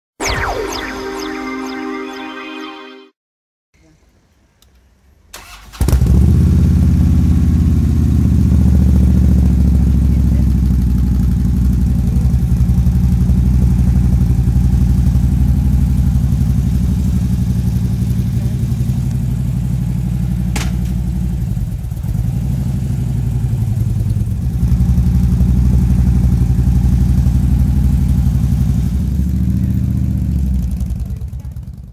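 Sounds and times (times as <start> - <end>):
motorcycle engine running: 5.8 - 31.9.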